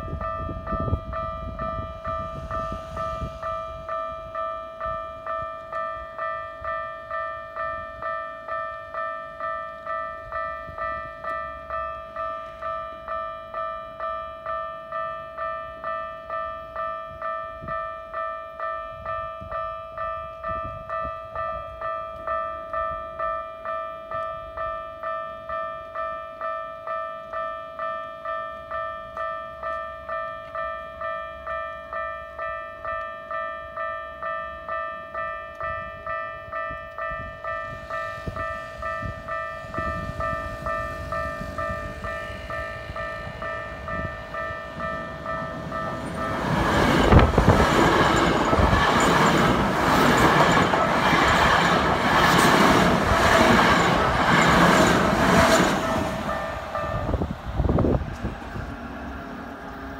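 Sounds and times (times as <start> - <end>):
level crossing warning bell: 0.0 - 58.2.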